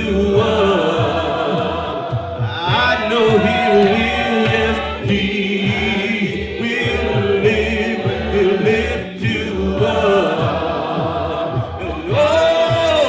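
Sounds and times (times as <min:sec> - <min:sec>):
choir singing: 0:00.0 - 0:13.0
low repeating beat: 0:00.0 - 0:13.0.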